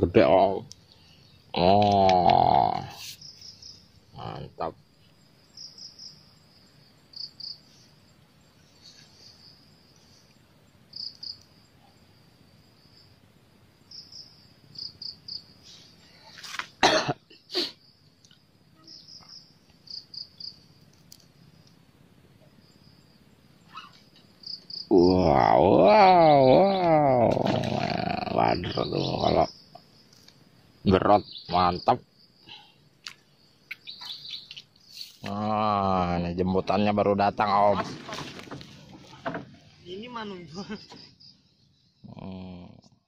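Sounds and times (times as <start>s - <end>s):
insects chirping: 0.0s - 43.0s.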